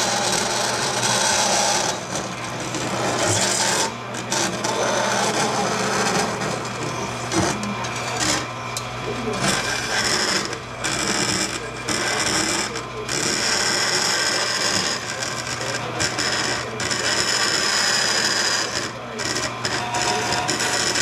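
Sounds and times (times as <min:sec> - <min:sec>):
bandsaw cutting metal: 0:00.0 - 0:21.0
motor hum: 0:00.0 - 0:21.0.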